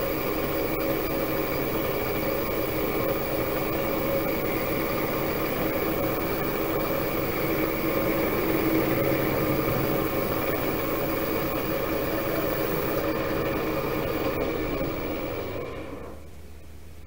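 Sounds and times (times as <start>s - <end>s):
metal lathe humming: 0.0s - 16.0s.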